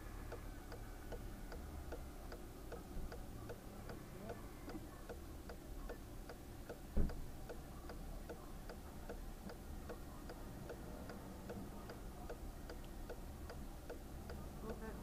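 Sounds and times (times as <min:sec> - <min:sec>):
car indicator ticking: 0:00.3 - 0:15.0.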